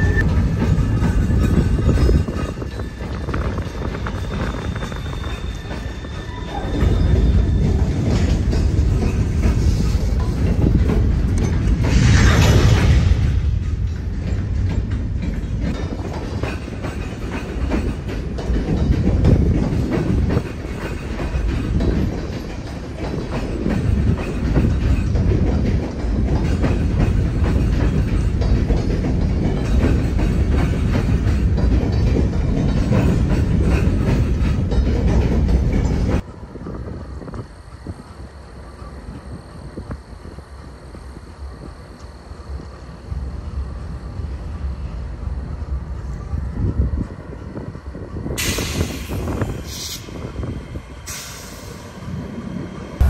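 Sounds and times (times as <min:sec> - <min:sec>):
freight train rumbling by: 0:00.0 - 0:53.0.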